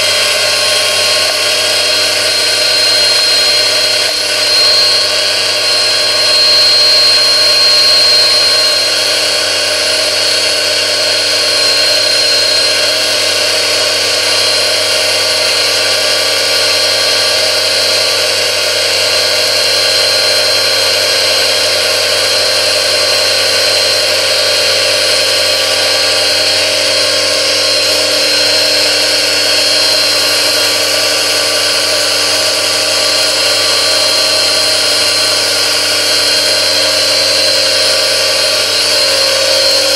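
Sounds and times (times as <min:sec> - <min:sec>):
high-pitched gear whine: 0:00.0 - 0:39.9.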